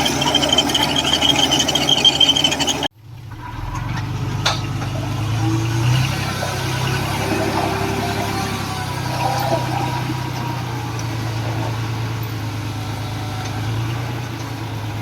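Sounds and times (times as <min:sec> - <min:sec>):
diesel machinery engine: 0:00.0 - 0:15.0
high squeal: 0:00.0 - 0:15.0.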